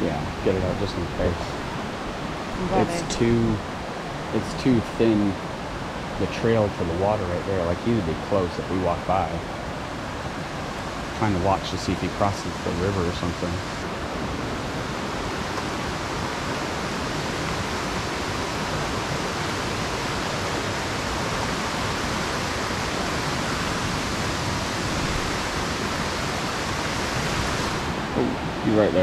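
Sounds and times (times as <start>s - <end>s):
river rushing over rocks: 1.6s - 29.0s.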